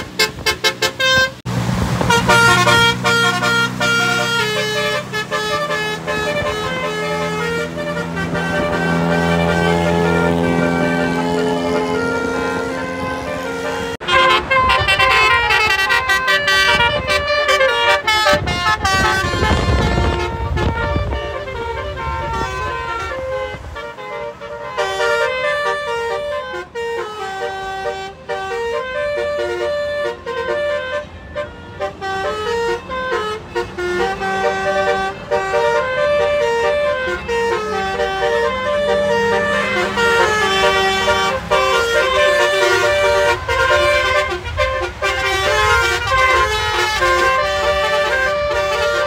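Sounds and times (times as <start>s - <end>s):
cars rumbling on road: 0.0s - 49.0s
multi-tone car horn melody: 0.0s - 49.0s.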